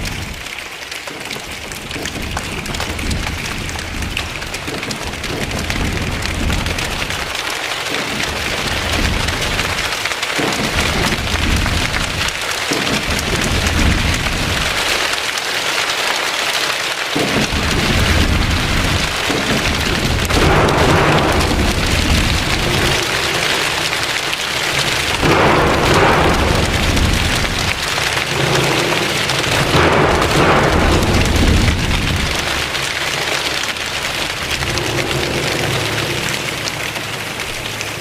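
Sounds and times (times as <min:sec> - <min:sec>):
hands and feet rain patter: 0:00.0 - 0:38.0
low rumble: 0:01.9 - 0:07.4, 0:08.2 - 0:12.4, 0:17.4 - 0:38.0.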